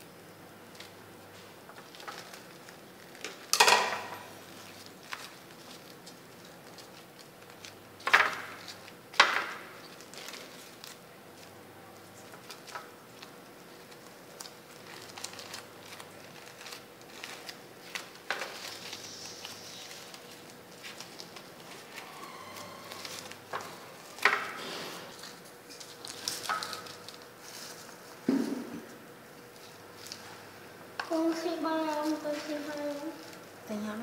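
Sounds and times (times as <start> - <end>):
plastic bag crinkling: 1.8 - 3.6, 4.2 - 28.2, 31.1 - 33.8.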